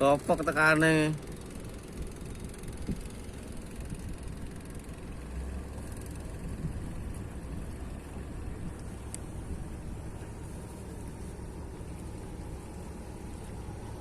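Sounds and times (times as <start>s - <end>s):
boat engine droning: 0.0s - 14.0s
constant noisy hiss: 0.0s - 14.0s.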